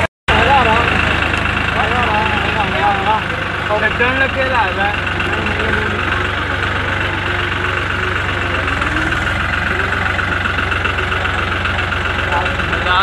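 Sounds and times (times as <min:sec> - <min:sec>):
diesel tractor engine idling: 0:00.0 - 0:13.0.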